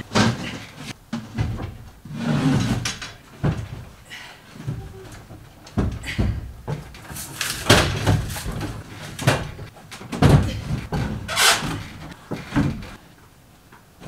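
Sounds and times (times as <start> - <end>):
hollow wooden knocks and scrapes: 0.0 - 13.0.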